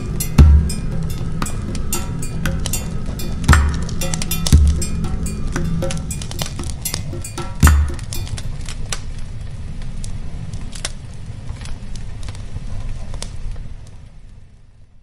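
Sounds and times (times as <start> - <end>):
low steady rumble: 0.0 - 14.9
fire crackling: 0.0 - 15.0.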